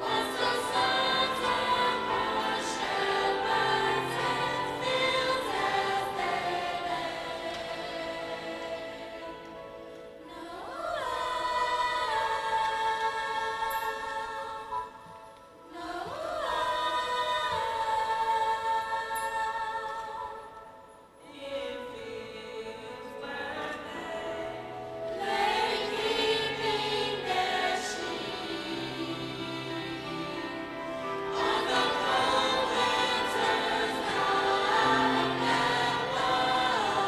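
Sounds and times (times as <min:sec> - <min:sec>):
choir singing sustained chords: 0:00.0 - 0:37.0.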